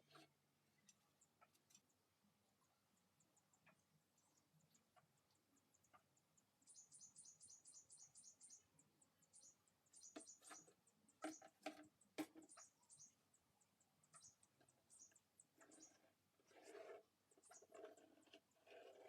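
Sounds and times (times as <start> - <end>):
small bird chirping: 0.0 - 19.0.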